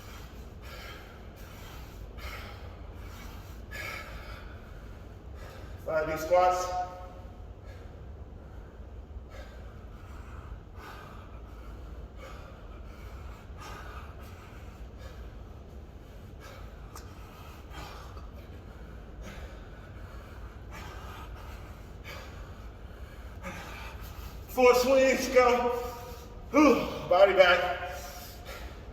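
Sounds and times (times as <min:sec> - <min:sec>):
man breathing hard: 0:00.0 - 0:28.9.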